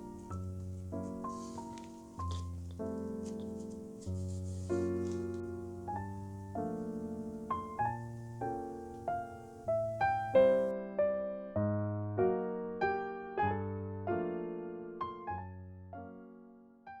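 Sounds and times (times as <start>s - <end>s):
slow soft piano melody: 0.0s - 17.0s.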